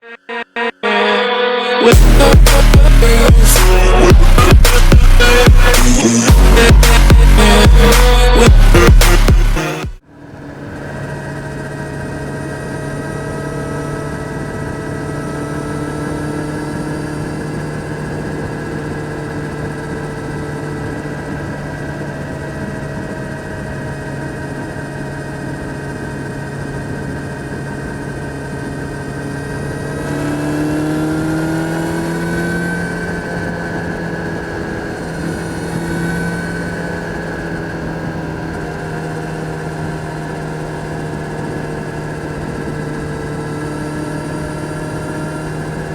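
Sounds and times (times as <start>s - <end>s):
motorcycle engine revving: 1.9s - 45.9s.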